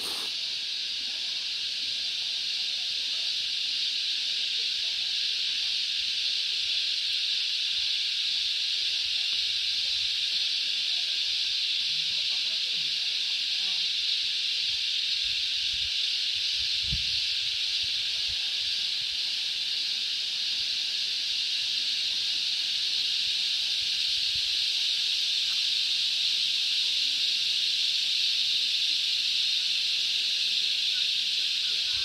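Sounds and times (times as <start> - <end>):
cicadas chorusing: 0.0 - 32.0.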